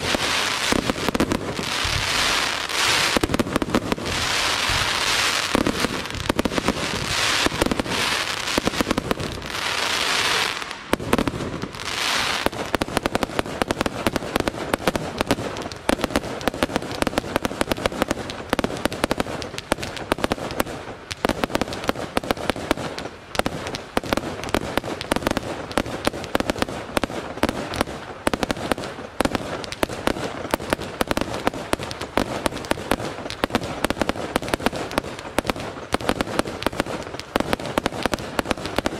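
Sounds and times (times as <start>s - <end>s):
fireworks bangs and crackles: 0.0s - 38.9s
fireworks hissing crackle: 0.0s - 38.9s.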